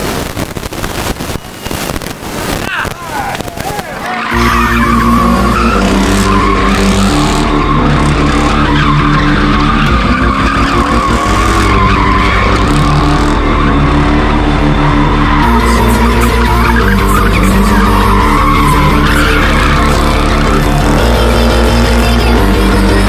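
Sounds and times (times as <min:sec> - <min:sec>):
tire screech: 0:02.6 - 0:23.0
car engine at high revs: 0:04.3 - 0:23.0.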